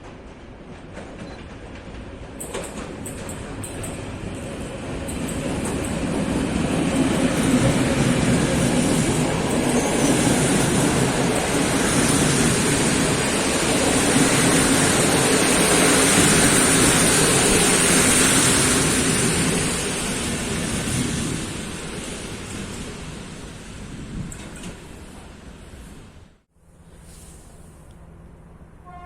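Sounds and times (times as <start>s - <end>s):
passenger train rolling past: 0.0s - 29.0s.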